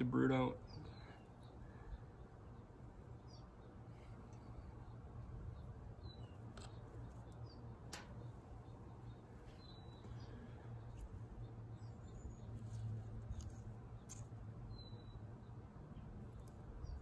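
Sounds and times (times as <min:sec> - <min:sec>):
steady low hum: 0:00.0 - 0:17.0
faint bird chirps: 0:00.4 - 0:17.0.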